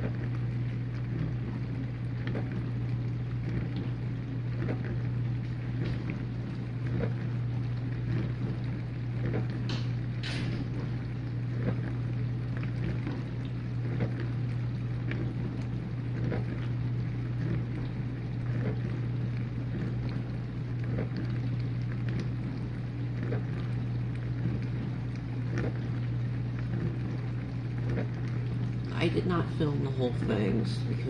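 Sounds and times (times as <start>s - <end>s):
dishwasher humming: 0.0s - 31.0s
water spraying inside dishwasher: 0.0s - 31.0s.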